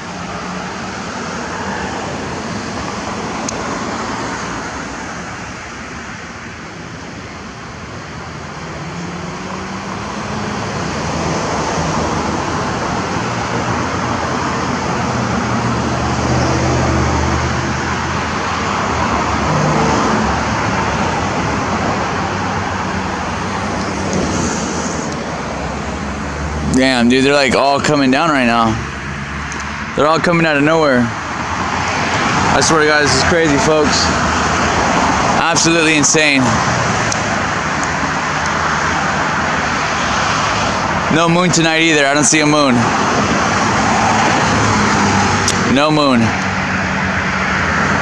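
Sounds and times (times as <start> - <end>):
road traffic noise: 0.0 - 48.0
vehicle engine hum: 0.0 - 48.0.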